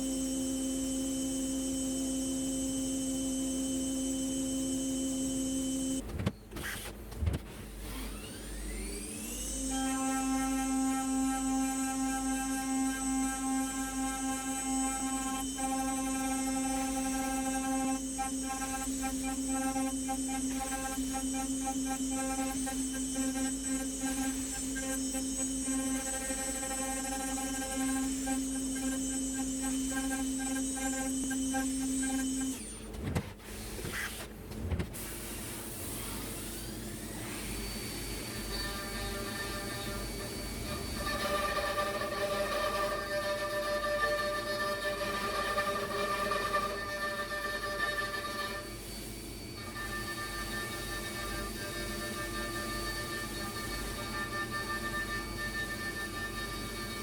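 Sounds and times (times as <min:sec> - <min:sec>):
milling machine spindle whine: 0:00.0 - 0:06.0, 0:07.8 - 0:33.0, 0:35.2 - 0:57.0.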